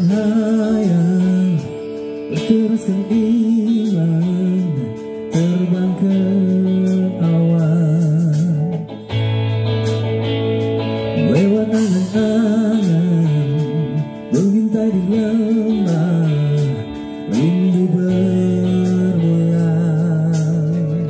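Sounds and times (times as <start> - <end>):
person singing with vibrato: 0.0 - 9.0, 11.1 - 21.0
guitar accompaniment: 0.0 - 21.0.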